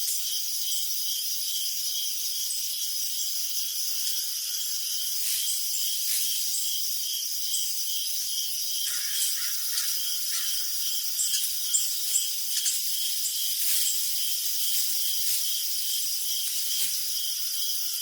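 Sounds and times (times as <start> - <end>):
cricket short chirps: 0.0 - 18.0
crickets high trill: 0.1 - 18.0.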